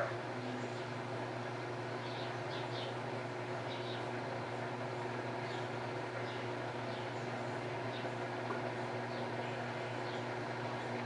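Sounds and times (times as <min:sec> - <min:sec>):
washing machine running: 0:00.0 - 0:11.0.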